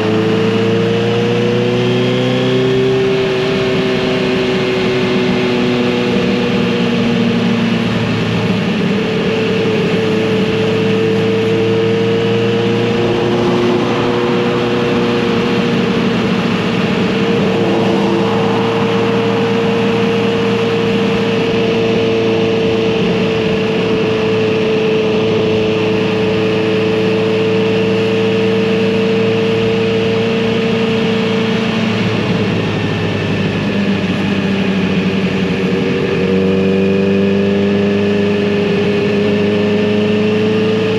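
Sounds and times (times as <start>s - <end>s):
motorcycle engine cruising: 0.0s - 40.9s
road and wind noise: 0.0s - 40.9s.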